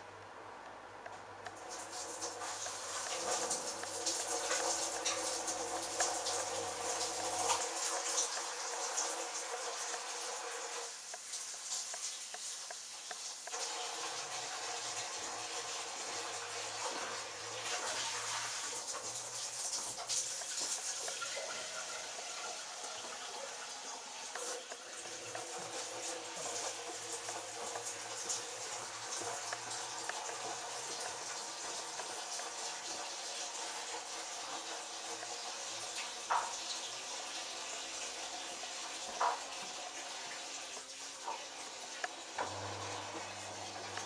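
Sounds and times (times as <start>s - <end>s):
water sloshing in washing machine: 1.6s - 44.0s.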